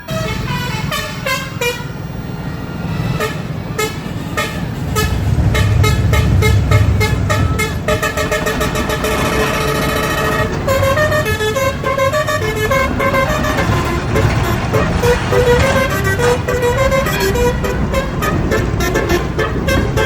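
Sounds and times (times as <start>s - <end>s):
tram horn toots: 0.0s - 20.0s
tram rumbling: 0.0s - 20.0s.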